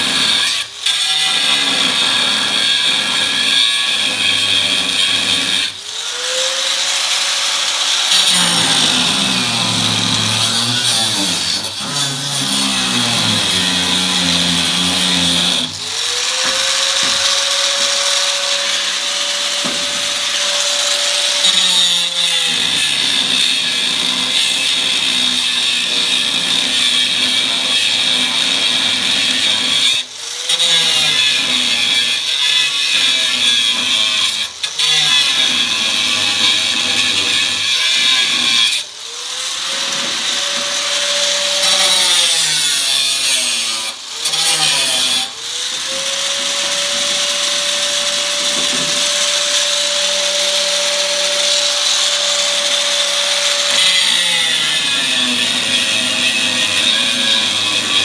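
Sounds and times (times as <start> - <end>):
power tool cutting metal: 0.0 - 58.0.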